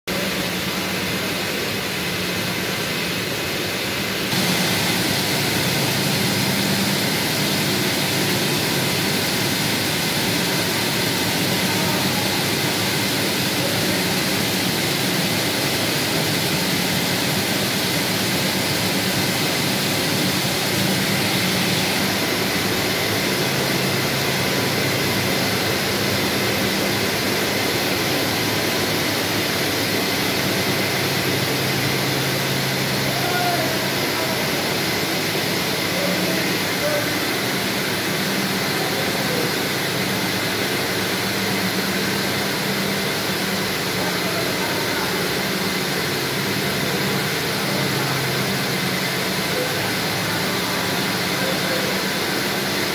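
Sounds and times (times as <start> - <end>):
spindle machine whirring: 4.3 - 52.9.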